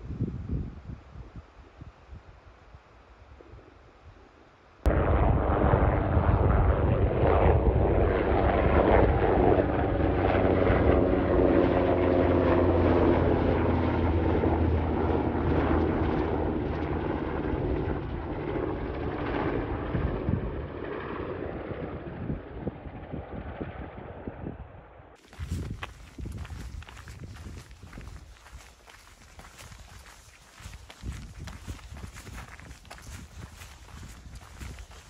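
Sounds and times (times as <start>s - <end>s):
helicopter flying past: 4.9s - 35.0s.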